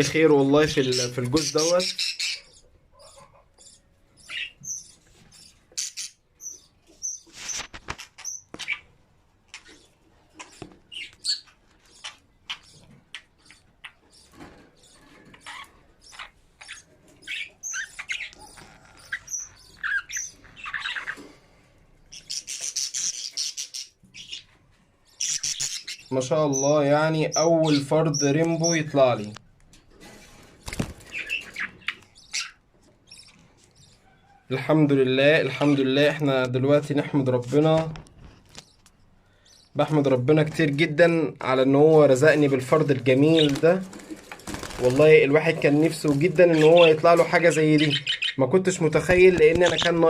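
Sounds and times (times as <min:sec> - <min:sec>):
budgerigars chirping: 0:00.0 - 0:08.9, 0:09.5 - 0:21.4, 0:22.0 - 0:29.1, 0:30.6 - 0:37.7, 0:38.5 - 0:50.0.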